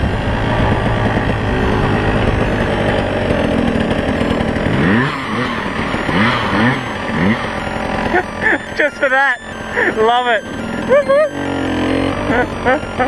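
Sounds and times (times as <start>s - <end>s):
off-road motorcycle engine revving: 0.0s - 13.0s.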